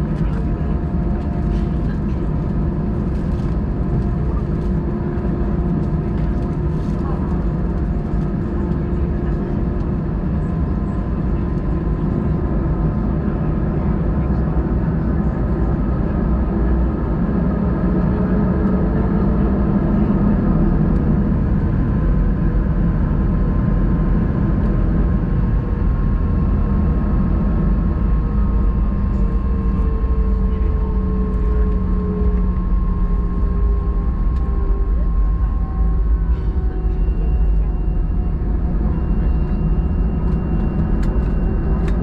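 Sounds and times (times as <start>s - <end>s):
jet engine cabin hum: 0.0s - 42.0s.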